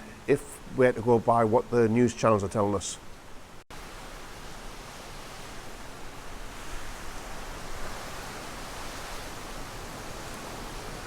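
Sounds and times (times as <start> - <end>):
strong wind rushing through trees: 0.0 - 11.0.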